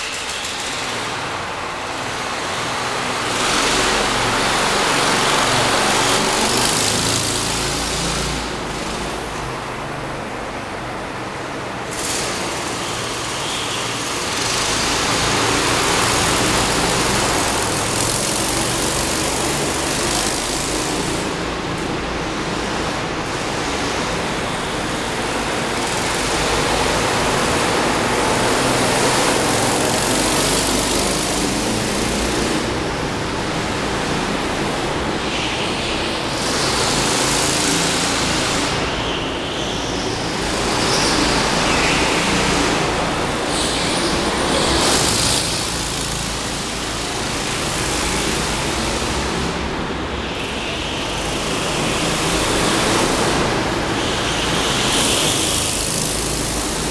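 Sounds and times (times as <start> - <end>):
go-kart engines passing: 0.0 - 56.9.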